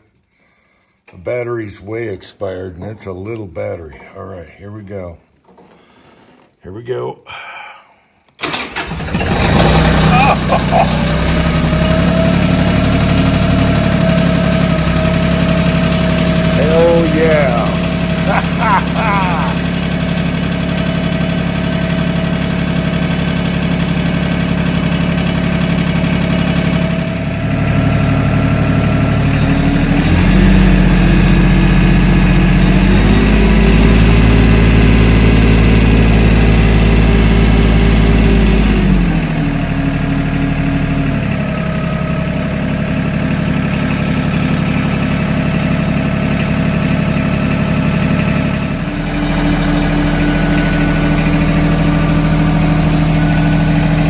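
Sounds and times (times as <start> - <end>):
diesel tractor engine idling: 8.4 - 54.0.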